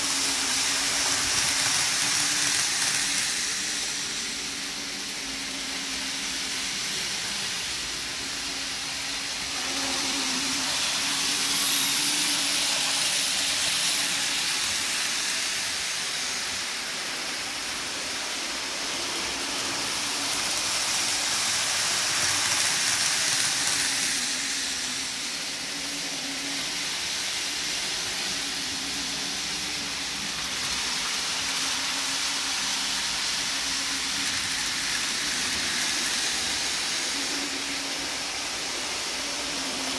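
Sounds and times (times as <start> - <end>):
model train whirring: 0.0 - 39.9.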